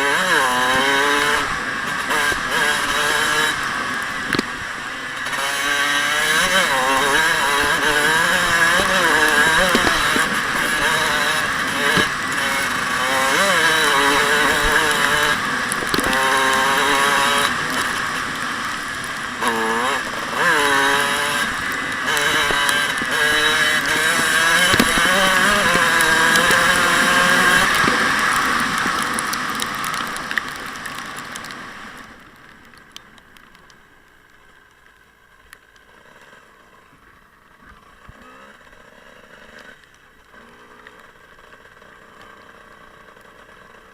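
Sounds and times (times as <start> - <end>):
dirt bike engine revving: 0.0 - 32.0, 37.7 - 43.9.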